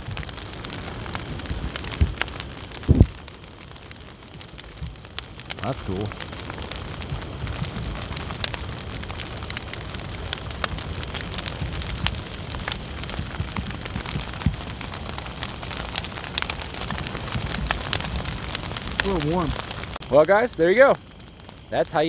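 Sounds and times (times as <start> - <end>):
bonfire flames rushing: 0.0 - 22.0
branches crackling and popping: 0.0 - 22.0.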